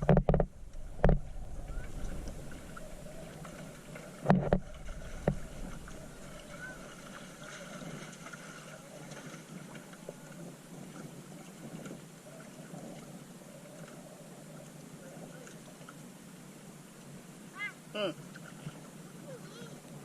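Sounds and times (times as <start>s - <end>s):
water washing against boat: 0.0s - 20.0s
wind: 0.0s - 20.0s.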